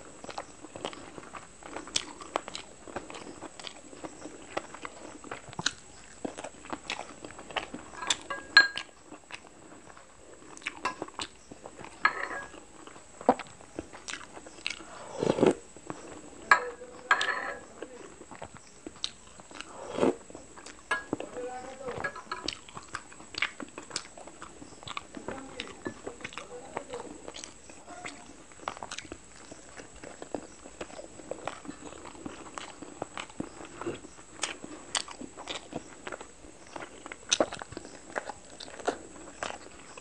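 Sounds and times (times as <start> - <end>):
wet chewing and lip smacking: 0.0 - 16.5, 17.7 - 21.3, 22.3 - 40.0.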